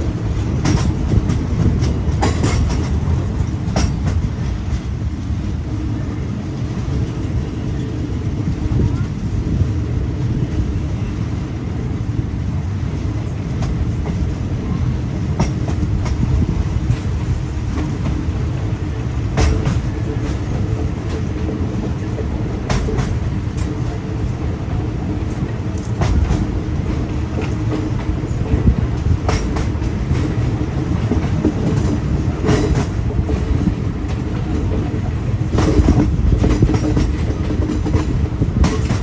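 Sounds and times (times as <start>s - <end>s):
train rumble on rails: 0.0s - 39.0s.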